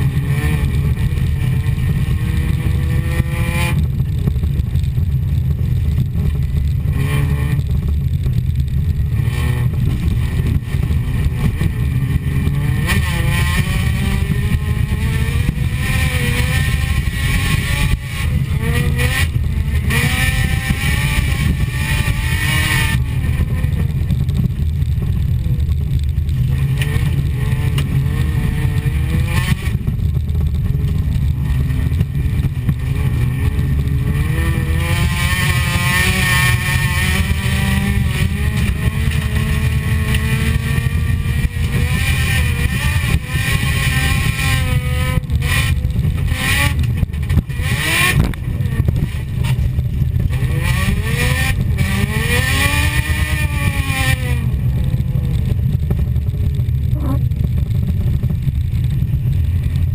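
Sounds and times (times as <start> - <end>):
car engine accelerating: 0.0 - 59.9
heavy rumble: 0.0 - 59.9.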